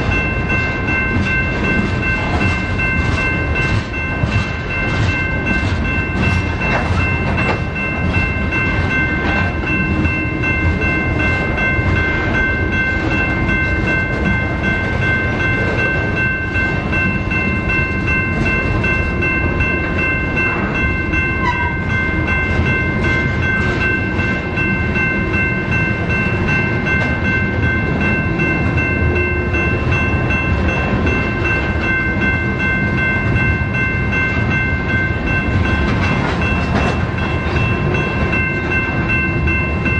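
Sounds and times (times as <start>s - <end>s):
freight train rumbling past: 0.0s - 39.9s
high ringing tones: 0.0s - 39.9s.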